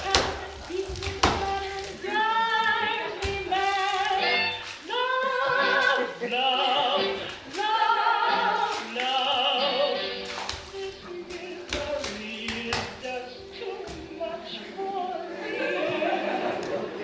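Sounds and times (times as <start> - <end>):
woman singing long held notes: 0.0 - 10.0, 10.7 - 16.0
music: 0.0 - 17.0.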